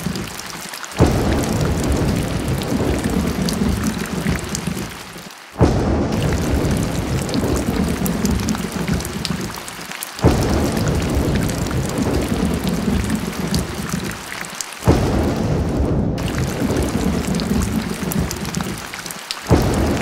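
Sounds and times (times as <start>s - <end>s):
heavy rain pouring: 0.0s - 20.0s
low rumble of thunder: 1.0s - 5.0s, 5.6s - 9.6s, 10.2s - 14.2s, 14.9s - 18.8s, 19.5s - 20.0s.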